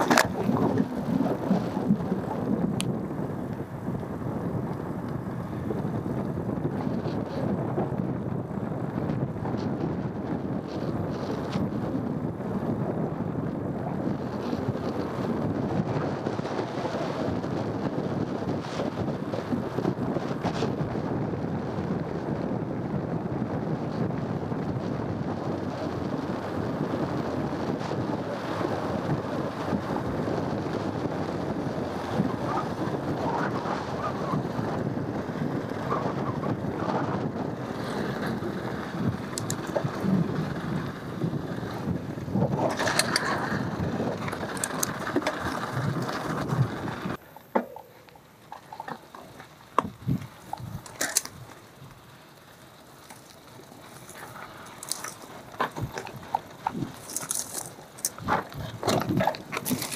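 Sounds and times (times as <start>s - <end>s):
mountain bike rattling on dirt trail: 0.0s - 59.9s
wind buffeting microphone: 0.0s - 59.9s.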